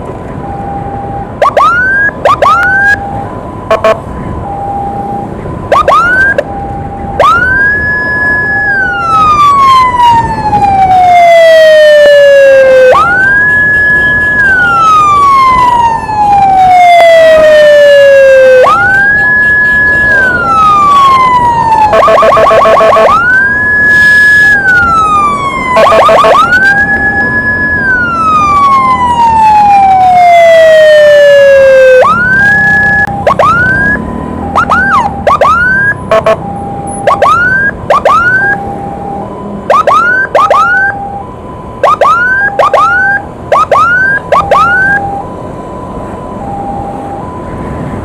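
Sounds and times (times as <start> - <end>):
siren wailing and whooping: 0.4 - 48.0
two-tone siren: 0.4 - 48.0.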